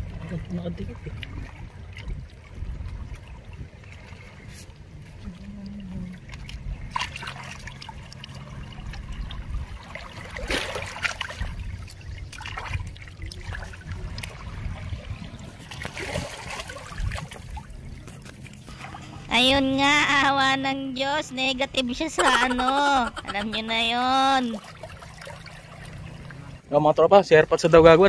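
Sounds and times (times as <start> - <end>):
low steady rumble: 0.0 - 28.0
water splashing and trickling: 0.0 - 28.0.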